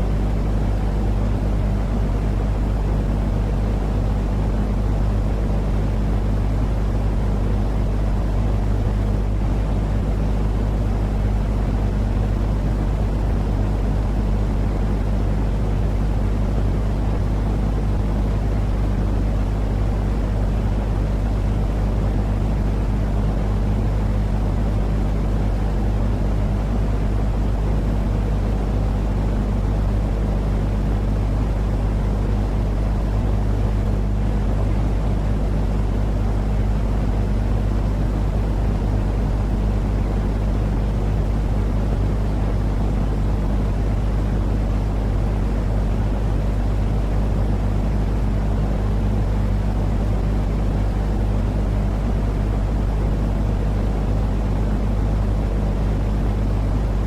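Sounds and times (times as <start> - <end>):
constant hum: 0.0 - 57.0.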